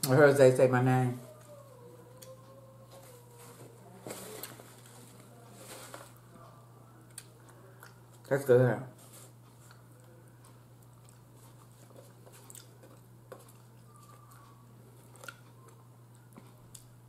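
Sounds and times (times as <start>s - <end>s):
quiet chewing: 1.3s - 8.3s, 9.1s - 17.0s.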